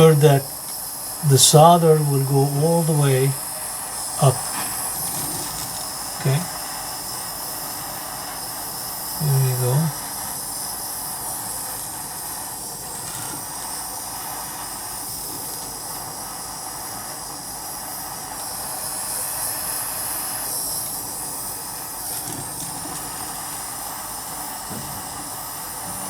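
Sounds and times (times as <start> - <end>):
soldering torch flame hissing: 0.0 - 26.0.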